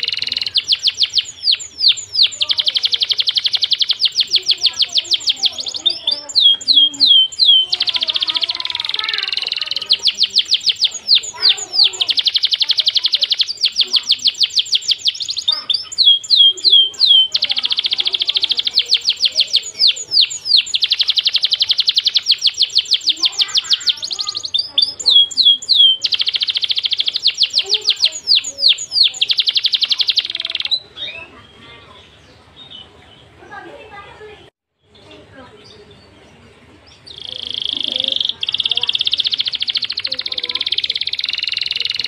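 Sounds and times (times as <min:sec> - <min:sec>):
songbird trilling: 0:00.0 - 0:33.4, 0:34.8 - 0:42.0.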